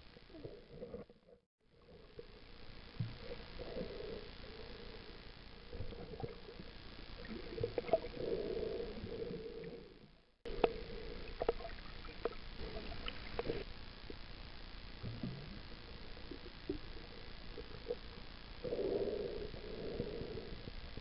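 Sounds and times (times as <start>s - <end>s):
muffled underwater hum: 0.0s - 21.0s.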